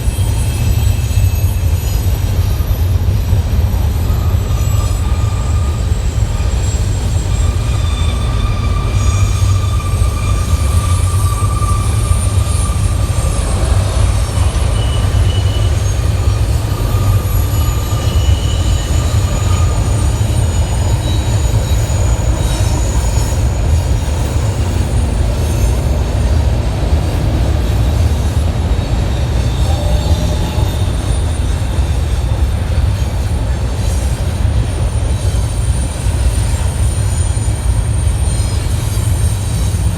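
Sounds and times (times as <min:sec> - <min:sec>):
freight train rumbling past: 0:00.0 - 0:39.9
high-pitched wheel squeals: 0:00.0 - 0:39.9.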